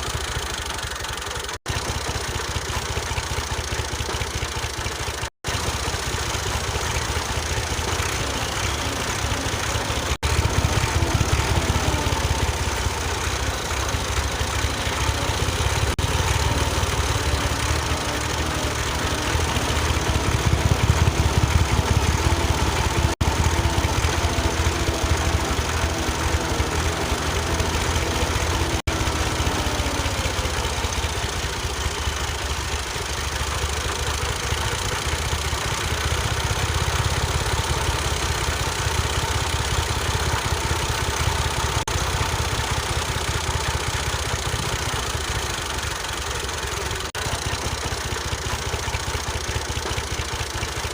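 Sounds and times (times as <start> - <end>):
engine chugging: 0.0 - 50.9.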